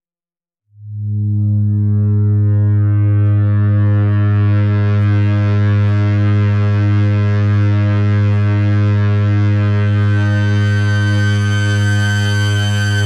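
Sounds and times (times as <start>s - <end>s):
low synthesizer drone: 0.8s - 13.0s.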